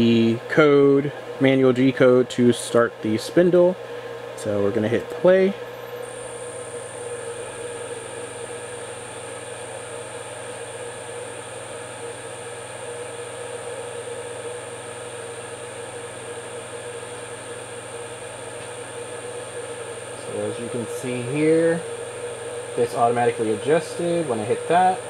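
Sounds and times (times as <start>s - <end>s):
spindle motor humming: 0.0s - 25.0s
thin high whine: 4.5s - 25.0s.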